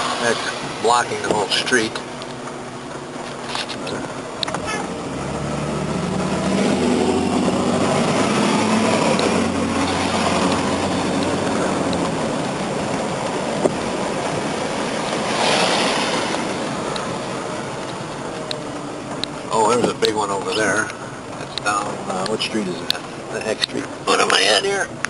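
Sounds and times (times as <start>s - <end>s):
car engine running: 0.0s - 25.0s
road and wind noise: 0.0s - 25.0s.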